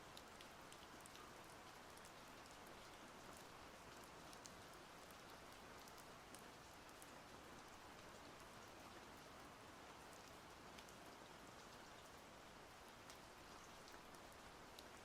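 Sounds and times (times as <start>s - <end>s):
small water drips: 0.1s - 15.0s.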